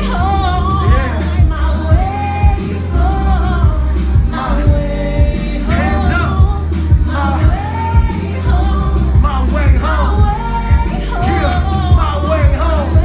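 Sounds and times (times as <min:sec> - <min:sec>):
drum beat and heavy bass: 0:00.0 - 0:13.0
hip-hop song over pa: 0:00.0 - 0:13.0.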